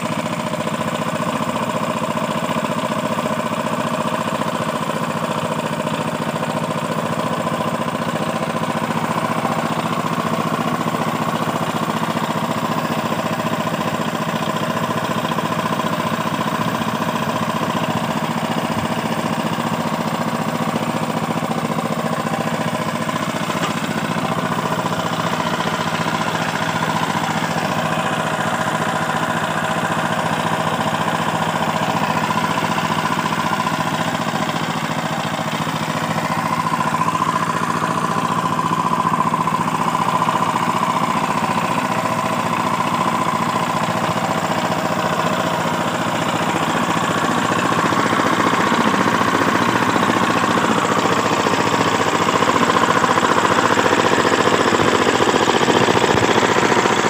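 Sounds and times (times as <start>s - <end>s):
small engine running steadily: 0.0s - 57.0s.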